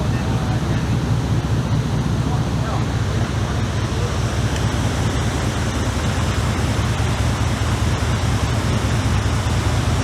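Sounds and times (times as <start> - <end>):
boat engine drone: 0.0 - 10.0
wind: 0.0 - 10.0.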